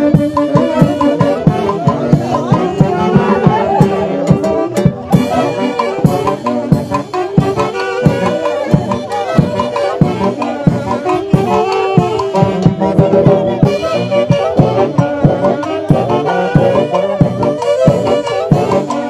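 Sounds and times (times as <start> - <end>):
brass and wind band melody: 0.0 - 19.0
steady drum beat: 0.0 - 19.0.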